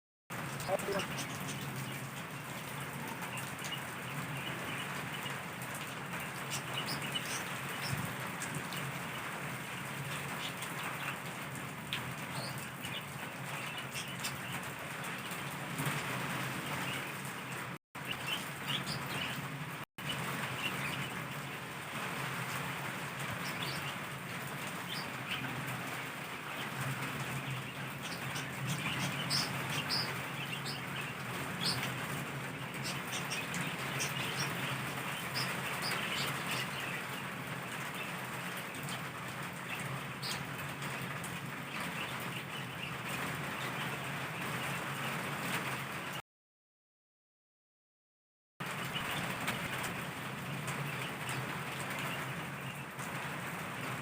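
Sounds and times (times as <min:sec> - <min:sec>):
heavy rain pouring: 0:00.3 - 0:46.2, 0:48.6 - 0:54.0
water dripping and splashing: 0:00.3 - 0:46.2, 0:48.6 - 0:54.0.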